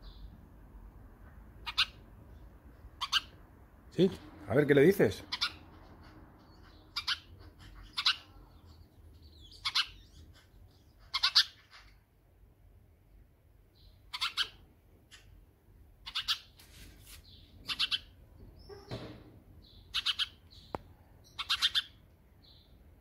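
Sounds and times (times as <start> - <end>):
sparrow chirping: 0.0 - 0.4, 1.6 - 4.1, 4.8 - 12.3, 13.5 - 23.0.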